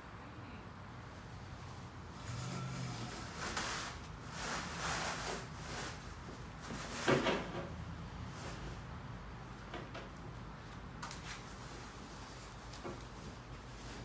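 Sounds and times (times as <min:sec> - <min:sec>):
rustling and scraping of parts: 0:01.6 - 0:14.0.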